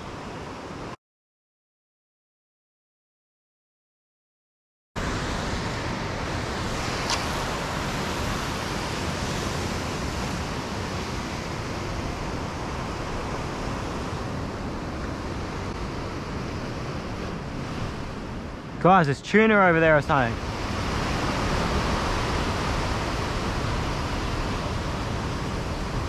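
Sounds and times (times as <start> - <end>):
wind: 0.0 - 1.0, 5.0 - 26.0
ocean waves breaking on rocks: 5.0 - 26.0.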